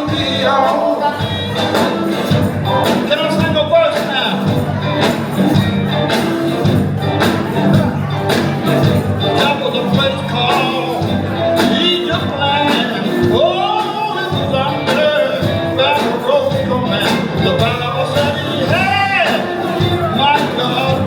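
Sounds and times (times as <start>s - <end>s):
person singing: 0.0s - 5.1s, 7.4s - 21.0s
gospel band music: 0.0s - 21.0s.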